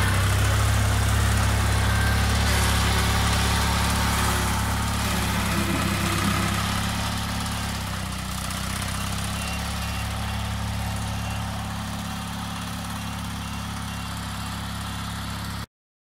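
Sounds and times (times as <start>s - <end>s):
garden tractor engine idling: 0.0s - 15.6s.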